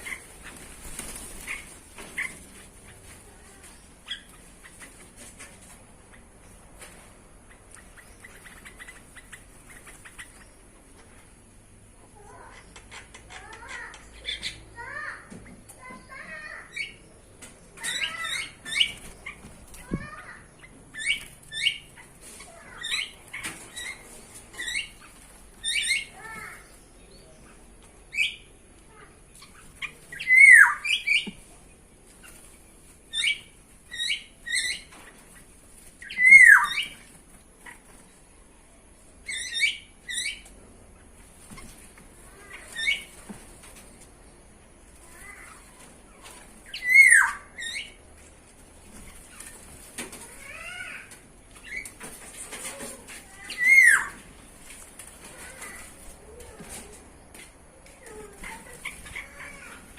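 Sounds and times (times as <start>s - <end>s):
birds chirping and squawking: 0.0s - 59.9s.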